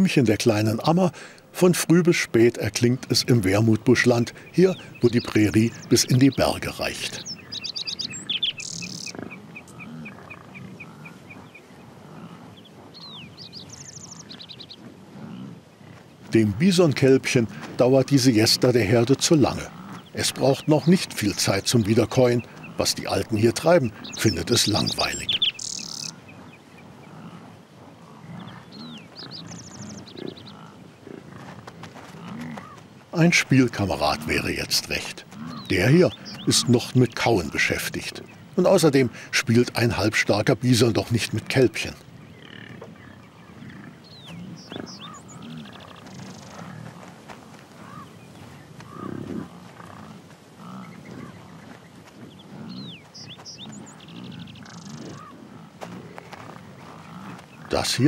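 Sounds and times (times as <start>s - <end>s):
bison grunting: 0.0s - 58.0s
songbird trilling: 2.5s - 11.8s, 16.3s - 27.4s, 28.2s - 31.0s, 31.8s - 47.1s, 47.8s - 58.0s.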